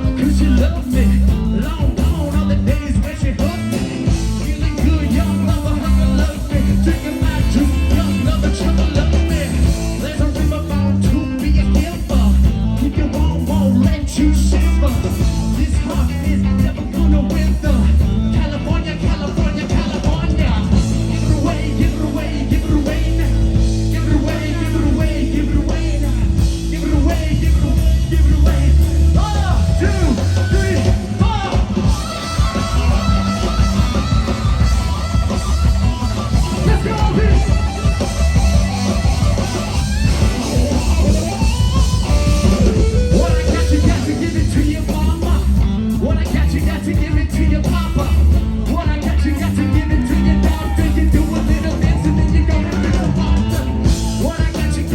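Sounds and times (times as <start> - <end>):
bass guitar: 0.0 - 54.9
drums: 0.0 - 54.9
electric guitar: 0.0 - 54.9.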